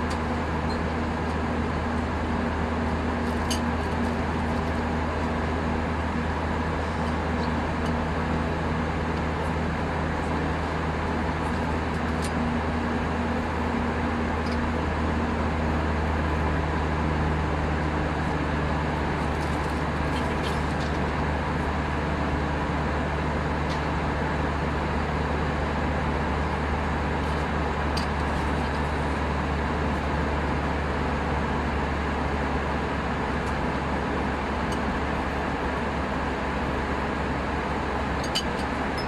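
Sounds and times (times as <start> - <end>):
aircraft cabin roar: 0.0 - 39.0.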